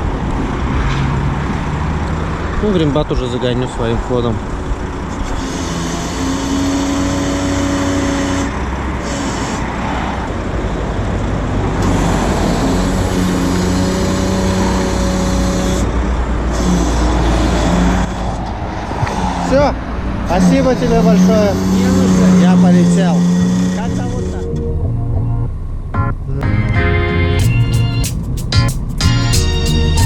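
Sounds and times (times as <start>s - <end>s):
truck engine rumbling: 0.0s - 30.0s.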